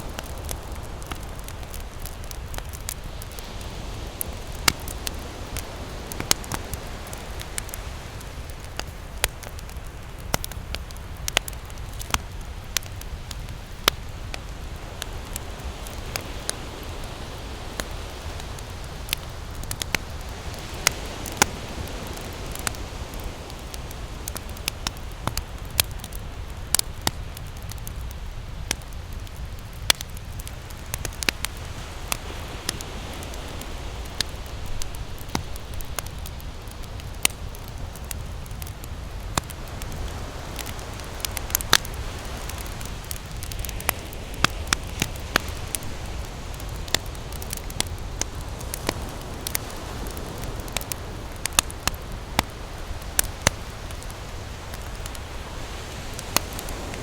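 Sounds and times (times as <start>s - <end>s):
ocean surf: 0.0s - 27.2s, 30.0s - 57.0s
campfire crackling and popping: 0.0s - 57.0s.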